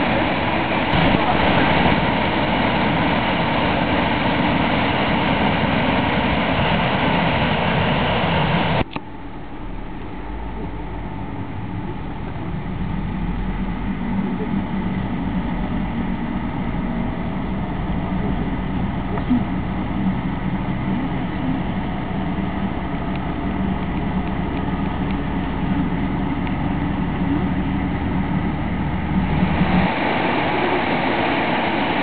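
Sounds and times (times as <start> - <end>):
river rushing through rapids: 0.0 - 8.8, 13.4 - 32.0
deeper rushing noise: 0.0 - 32.0.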